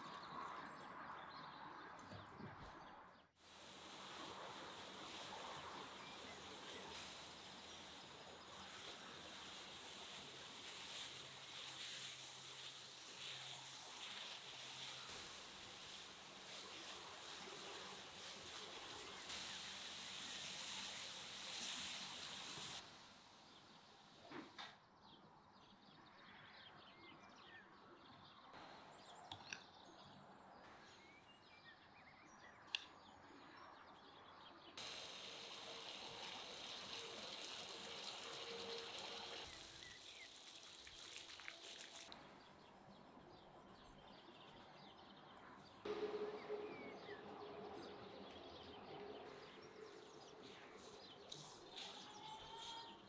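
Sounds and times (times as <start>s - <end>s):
birds chirping: 0.0s - 22.8s, 25.0s - 53.0s.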